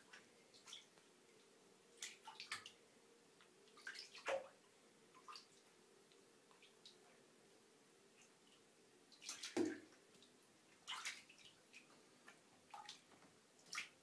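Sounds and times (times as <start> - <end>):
soft water splashes and drips: 0.0 - 14.0.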